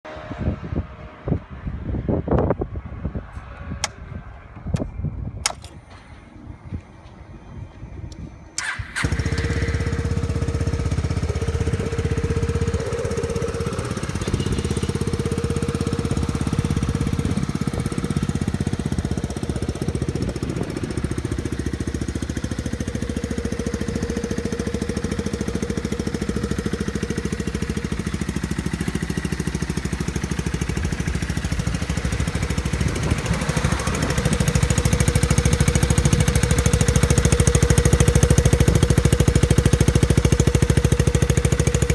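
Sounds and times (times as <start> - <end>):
scooter engine starting and idling: 3.8 - 41.9.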